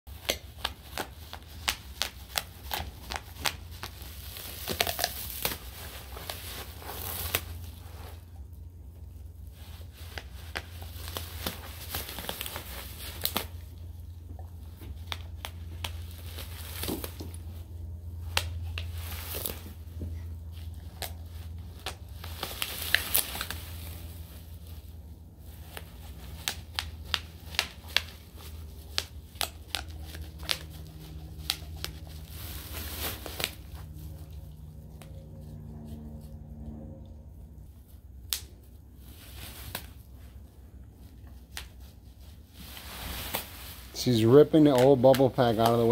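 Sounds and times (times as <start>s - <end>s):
bubble wrap popping: 0.1s - 35.3s, 37.9s - 45.9s
plastic crinkling and tearing: 0.1s - 36.2s, 38.2s - 45.9s
steady low hum: 0.1s - 45.9s.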